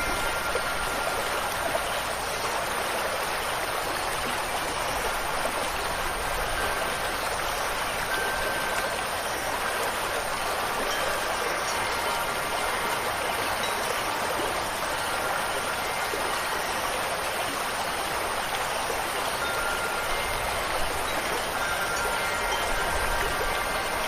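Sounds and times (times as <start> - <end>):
rushing water: 0.0 - 24.0
wind chimes ringing: 0.0 - 24.0.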